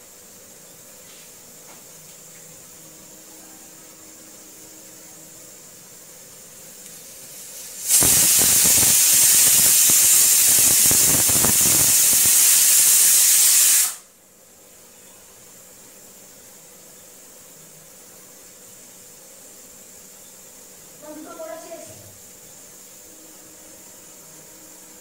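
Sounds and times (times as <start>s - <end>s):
pressure cooker steam hiss: 0.0s - 25.0s.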